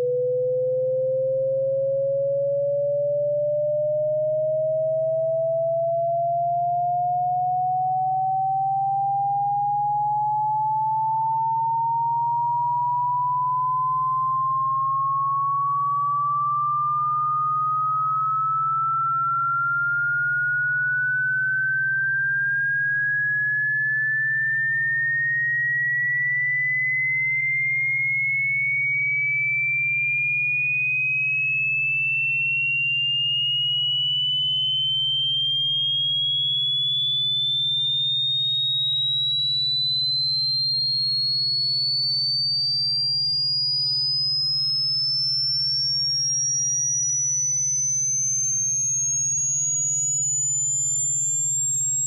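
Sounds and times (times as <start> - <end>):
rising electronic sine tone: 0.0 - 52.0.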